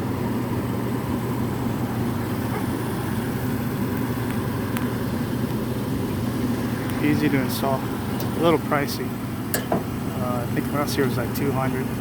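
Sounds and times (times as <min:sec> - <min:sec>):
furnace blower humming: 0:00.0 - 0:12.0.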